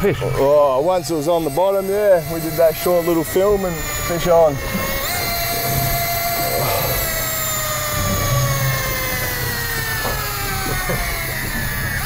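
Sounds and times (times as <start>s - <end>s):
fishing reel motor whine: 0.0s - 12.0s
steady low hum: 0.0s - 12.0s.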